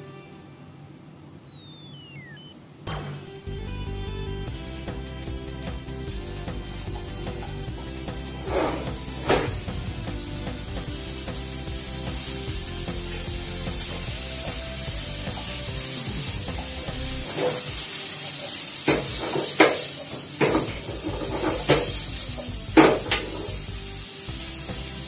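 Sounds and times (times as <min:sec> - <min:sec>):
food sizzling in a frying pan: 0:04.4 - 0:25.0.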